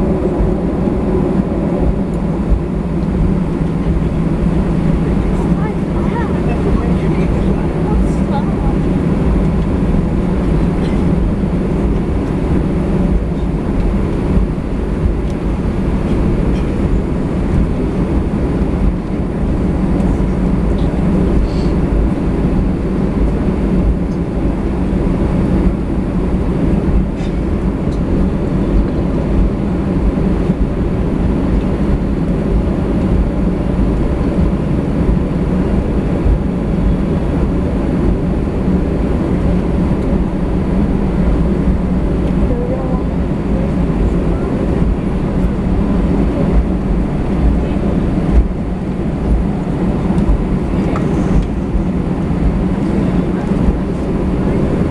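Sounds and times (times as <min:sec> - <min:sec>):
jet engine cabin rumble: 0:00.0 - 0:54.9.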